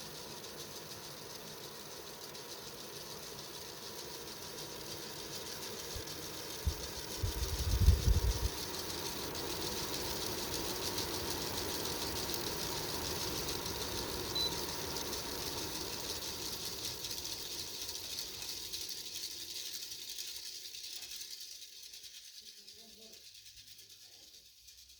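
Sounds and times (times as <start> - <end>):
air purifier fan rattling: 0.0 - 24.9.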